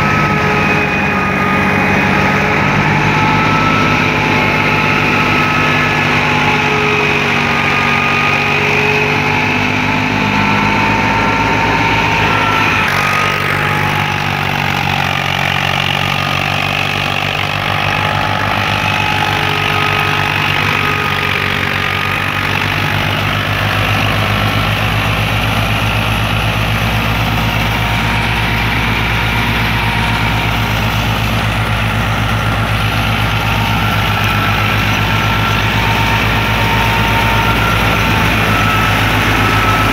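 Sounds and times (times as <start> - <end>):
diesel tractor engine under load: 0.0 - 39.9
high wavering whine: 0.0 - 39.9
thresher drum and fan running: 0.0 - 39.9.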